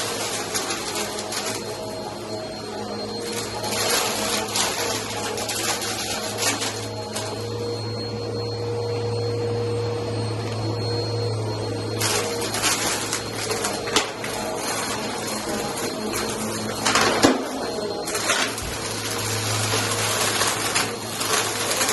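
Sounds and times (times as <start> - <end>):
debris rattling in vacuum: 0.0 - 7.9, 11.9 - 21.9
vacuum cleaner humming: 0.0 - 21.9.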